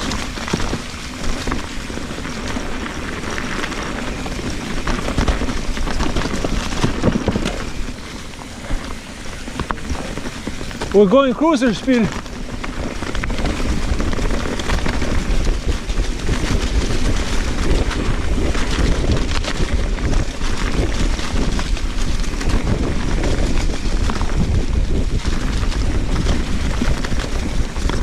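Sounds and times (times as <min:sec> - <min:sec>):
bike knocking and rattling: 0:00.0 - 0:28.0
tyres rumbling over dirt: 0:00.0 - 0:28.0
wind rushing over microphone: 0:00.0 - 0:28.0.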